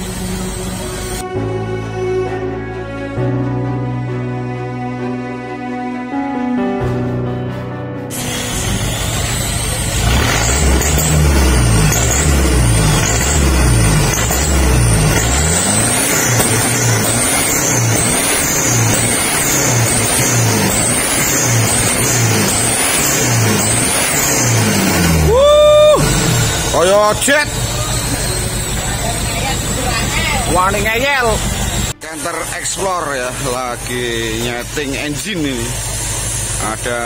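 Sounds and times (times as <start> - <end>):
diesel truck engine revving: 0.0 - 1.5, 8.1 - 37.0
high engine whine: 0.0 - 3.0, 8.1 - 37.0.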